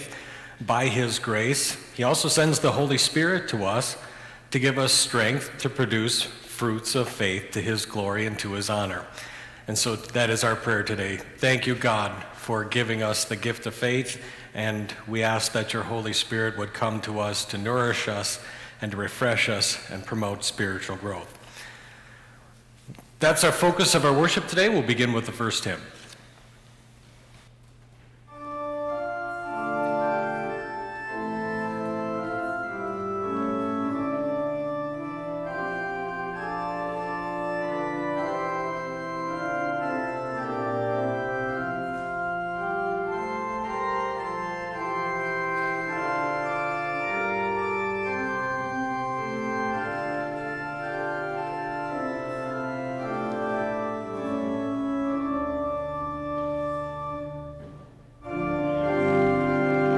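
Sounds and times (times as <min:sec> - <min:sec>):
organ playing a hymn: 0:00.0 - 0:22.3, 0:23.2 - 0:26.2, 0:28.2 - 0:59.9.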